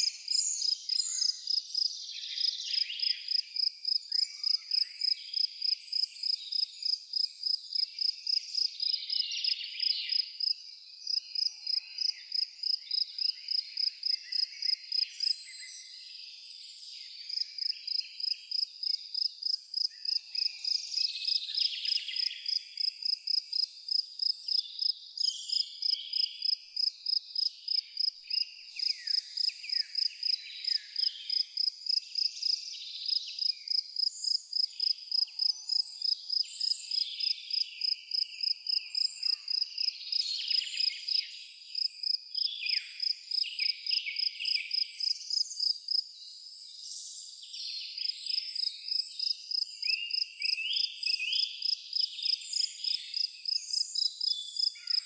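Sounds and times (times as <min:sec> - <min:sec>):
cricket chirping: 0:00.0 - 0:15.4, 0:17.3 - 0:46.1, 0:48.0 - 0:55.0.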